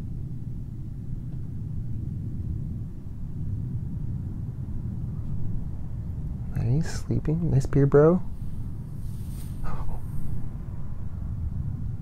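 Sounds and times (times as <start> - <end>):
low rumbling drone: 0.0 - 12.0.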